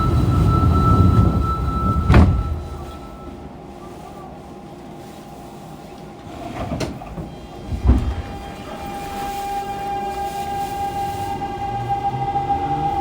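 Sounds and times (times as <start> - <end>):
sliding doors closing with clunk: 0.0 - 3.5, 6.0 - 13.0
train click: 0.0 - 3.5, 4.8 - 13.0.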